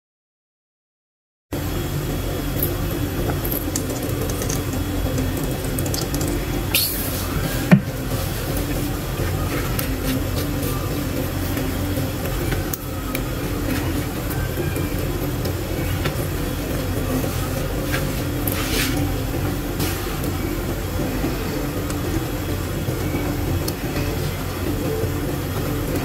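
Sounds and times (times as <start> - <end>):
steady low hum: 1.5 - 26.0.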